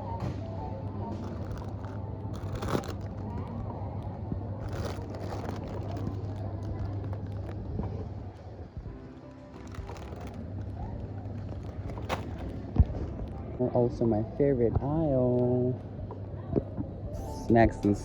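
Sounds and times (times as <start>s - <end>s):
faint voices: 0.0s - 18.0s
steady low hum: 0.0s - 18.0s.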